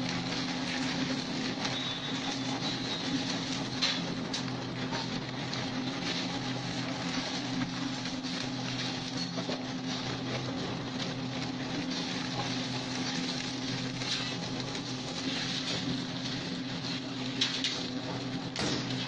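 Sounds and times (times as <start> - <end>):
wood crackling and snapping: 0.0 - 19.0
wood shredder humming: 0.0 - 19.0.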